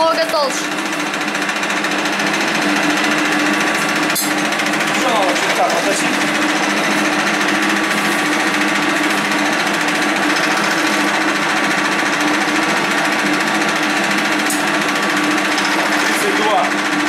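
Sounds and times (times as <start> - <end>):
lathe high whine: 0.0 - 17.0
lathe mechanical hum: 0.0 - 17.0.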